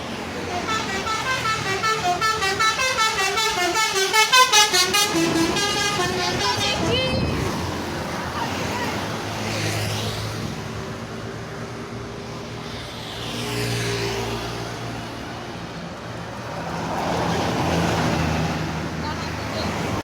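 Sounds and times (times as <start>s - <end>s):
vehicles passing close by: 0.0s - 20.0s.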